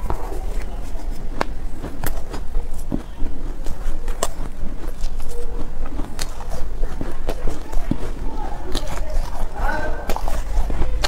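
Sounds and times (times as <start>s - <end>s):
cotton ice crunching when chewed: 0.0s - 11.0s
low steady hum: 0.0s - 11.0s.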